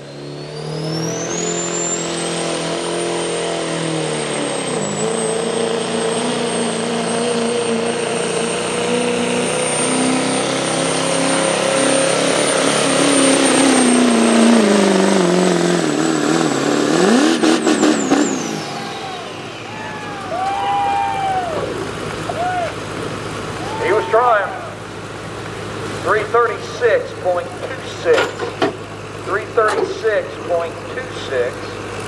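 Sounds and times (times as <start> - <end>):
diesel engine running hard: 0.0 - 32.0.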